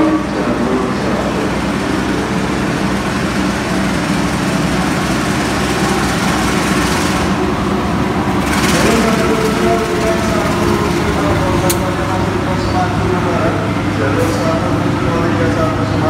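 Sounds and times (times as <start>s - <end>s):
locomotive engine drone: 0.0s - 16.0s.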